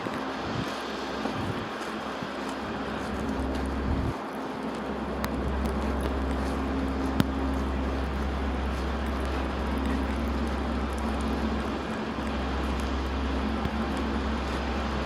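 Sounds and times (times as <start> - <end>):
low traffic rumble: 0.0 - 15.0
vehicle engine hum: 0.0 - 15.0.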